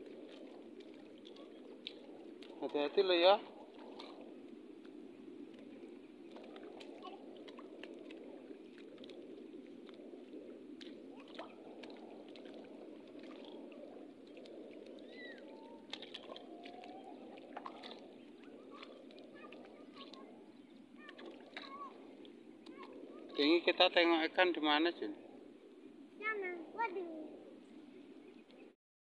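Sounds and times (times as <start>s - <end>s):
small clicks and splashes: 0.0s - 24.1s.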